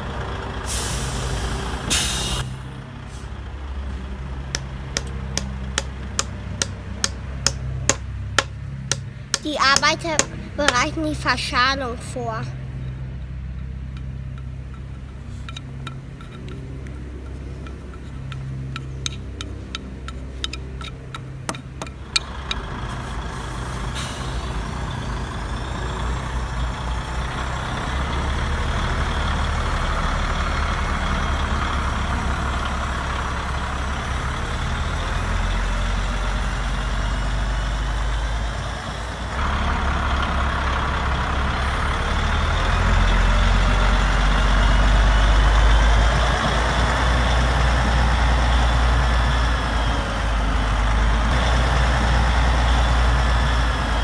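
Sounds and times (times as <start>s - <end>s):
simulated truck engine drone: 0.0s - 54.0s.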